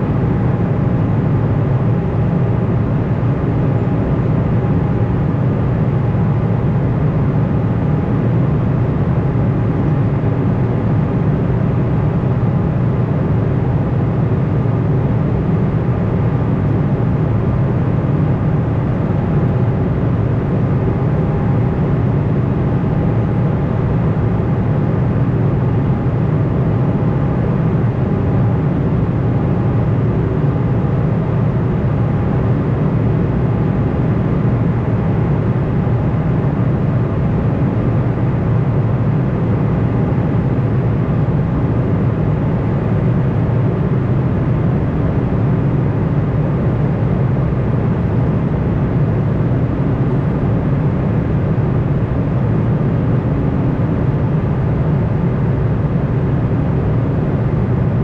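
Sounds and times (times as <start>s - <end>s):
airliner cabin drone: 0.0s - 58.0s.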